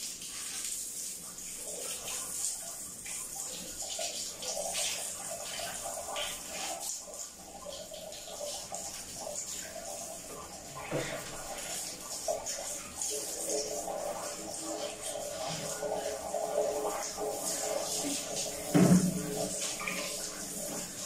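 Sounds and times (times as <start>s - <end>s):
water splashing: 0.0s - 21.0s.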